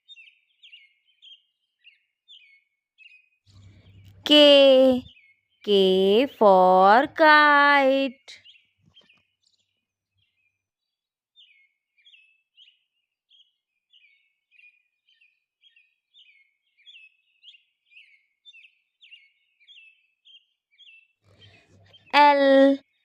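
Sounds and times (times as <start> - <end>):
faint bird chirping: 0.0 - 23.0.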